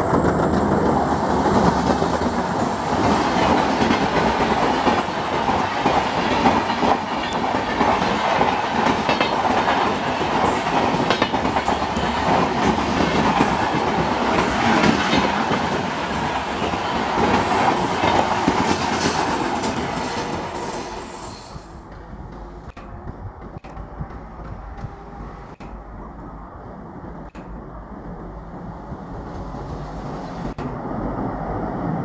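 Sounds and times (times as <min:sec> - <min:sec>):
train wheels clattering on rails: 0:00.0 - 0:31.2.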